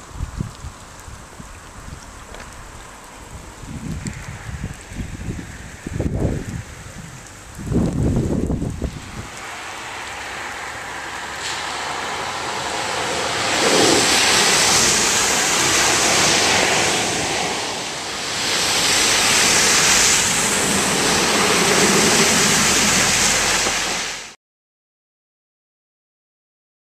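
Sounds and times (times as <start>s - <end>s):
floodwater rushing and spraying: 0.0s - 24.4s.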